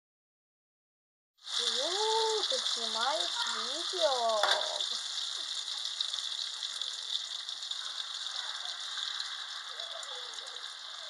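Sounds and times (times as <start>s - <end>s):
pancake batter sizzling: 1.4s - 11.0s.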